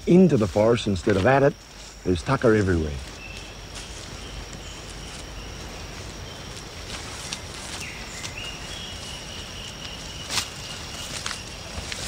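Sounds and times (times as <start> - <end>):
high insect drone: 0.0 - 12.0
footsteps in leaf litter: 0.2 - 12.0.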